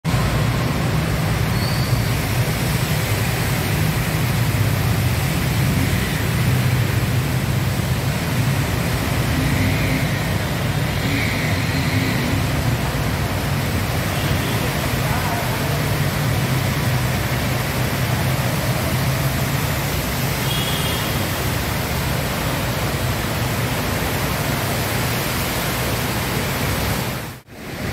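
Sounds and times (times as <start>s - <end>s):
rush of water: 0.1s - 27.9s
vehicles driving through water: 0.1s - 27.9s.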